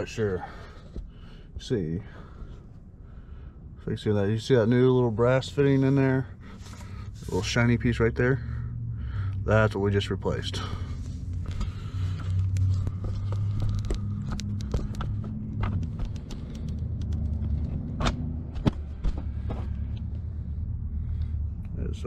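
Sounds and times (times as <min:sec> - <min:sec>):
low rumble: 0:02.2 - 0:22.0.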